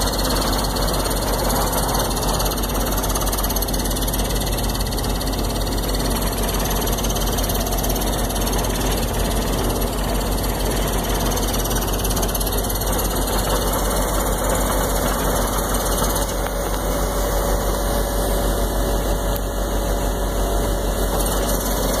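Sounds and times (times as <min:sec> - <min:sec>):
drill rig machinery din: 0:00.0 - 0:22.0.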